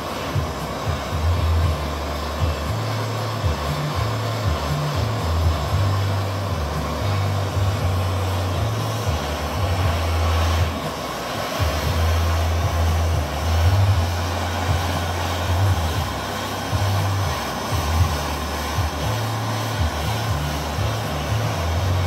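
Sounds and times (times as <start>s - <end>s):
blowtorch flame rushing: 0.0s - 22.0s.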